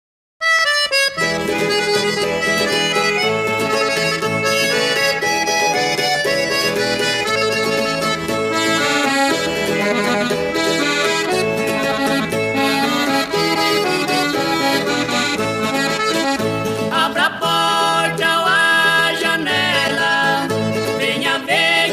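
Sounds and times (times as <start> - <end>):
accordion music: 0.4 - 21.9.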